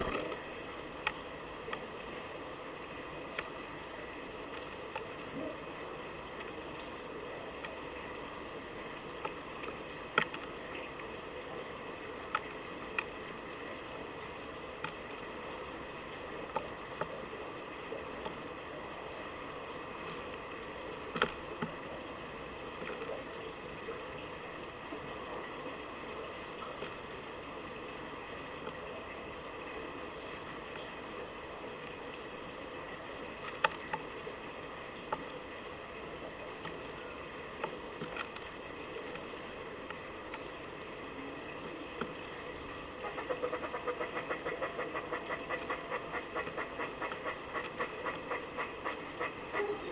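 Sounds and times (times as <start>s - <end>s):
garden background noise: 0.0s - 49.9s
steady background hiss: 0.0s - 49.9s.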